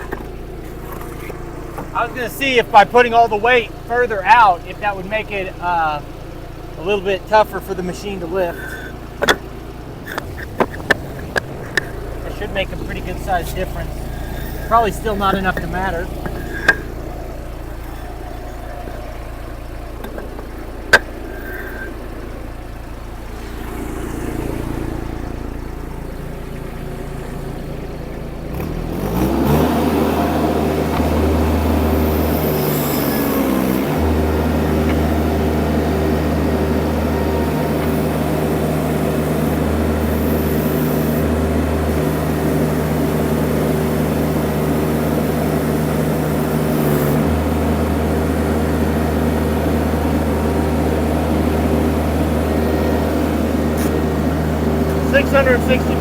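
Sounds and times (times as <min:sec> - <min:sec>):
engine revving higher: 0:00.0 - 0:56.0
skid steer engine idling: 0:00.0 - 0:56.0.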